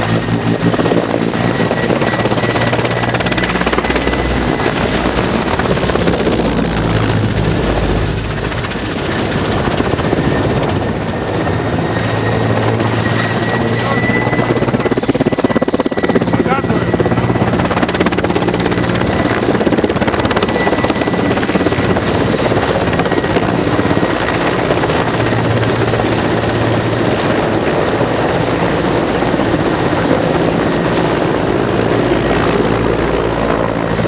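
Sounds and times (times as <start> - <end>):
helicopter rotor beating: 0.0 - 34.0
turbine engine whine: 0.0 - 34.0.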